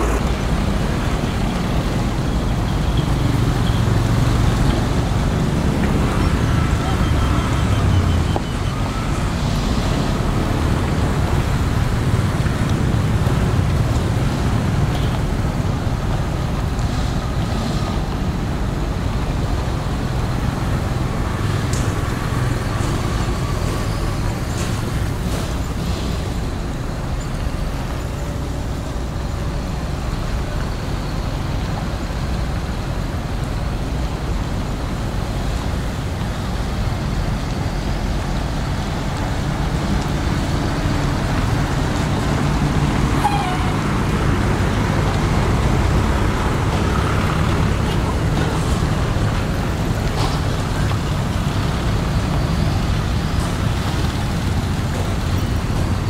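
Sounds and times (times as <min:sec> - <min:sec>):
diesel truck engine rumbling: 0:00.0 - 0:56.0
road traffic passing: 0:00.0 - 0:56.0.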